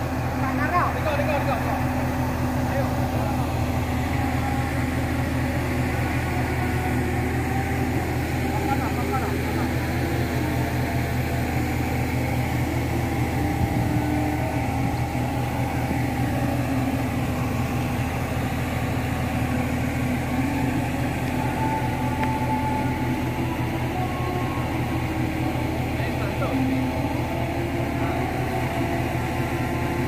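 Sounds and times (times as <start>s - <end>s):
heavy machine engine droning: 0.0s - 30.0s.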